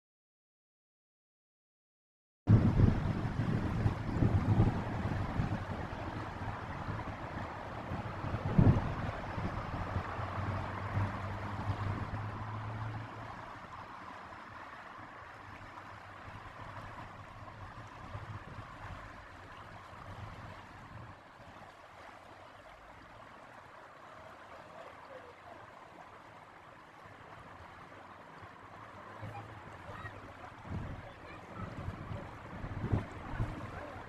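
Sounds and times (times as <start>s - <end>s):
river water rushing: 2.7s - 34.0s.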